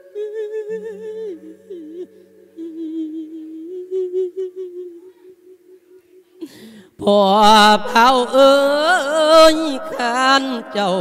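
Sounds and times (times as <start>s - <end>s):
person chanting into microphone: 0.0s - 11.0s.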